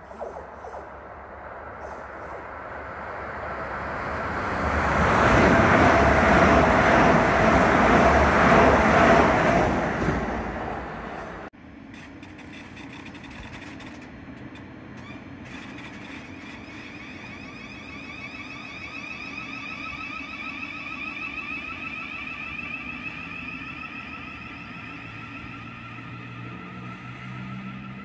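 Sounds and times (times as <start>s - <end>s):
electric train whine: 0.0s - 28.0s
low train rumble: 0.0s - 28.0s.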